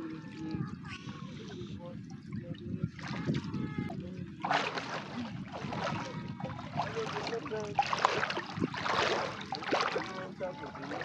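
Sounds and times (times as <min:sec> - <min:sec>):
faint voices: 0:00.0 - 0:11.0
water splashing and sloshing: 0:01.4 - 0:11.0.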